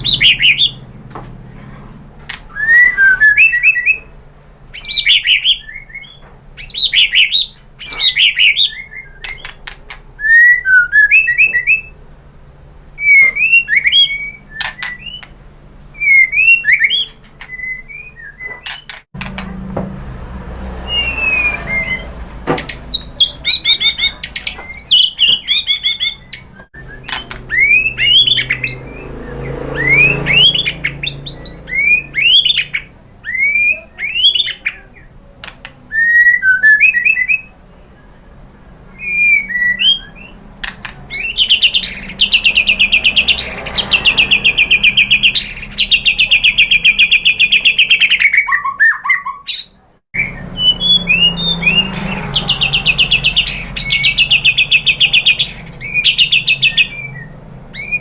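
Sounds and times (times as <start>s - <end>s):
bird singing whistled phrases: 0.0s - 0.8s, 2.5s - 4.1s, 4.7s - 9.6s, 10.2s - 12.0s, 13.0s - 19.0s, 20.8s - 35.1s, 35.9s - 38.2s, 38.9s - 40.4s, 41.1s - 58.0s.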